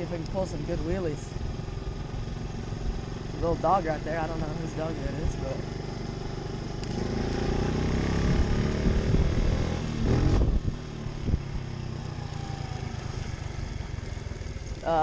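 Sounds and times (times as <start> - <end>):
pit bike engine revving: 0.0 - 15.0.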